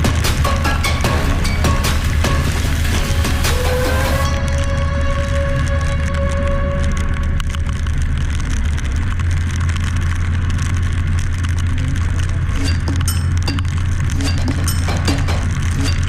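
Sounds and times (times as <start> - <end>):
motorcycle engine drone: 0.0 - 16.0.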